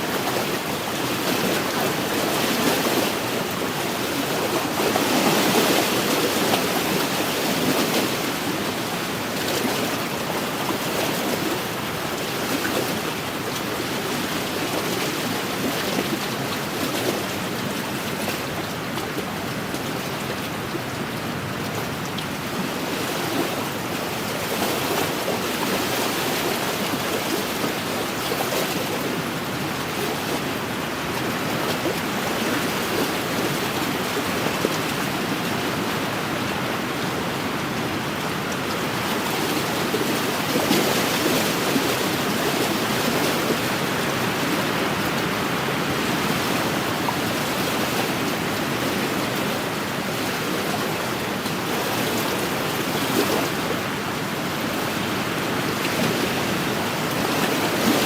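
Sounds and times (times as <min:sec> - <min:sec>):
waves lapping against shore: 0:00.0 - 0:58.0.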